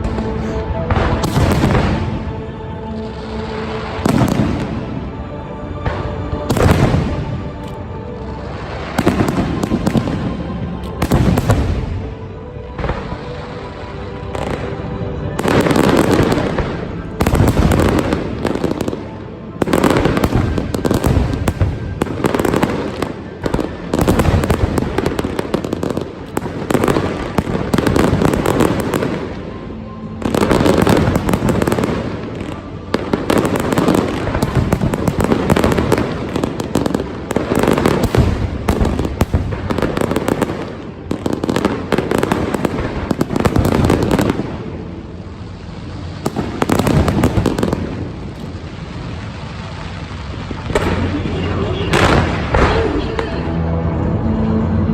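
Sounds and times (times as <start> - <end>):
fireworks bangs and crackling: 0.0 - 54.8.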